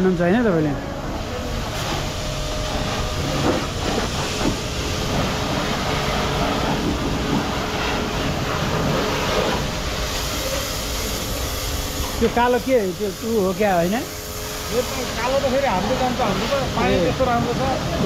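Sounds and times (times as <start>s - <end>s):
pressure washer spraying water: 0.0s - 18.0s.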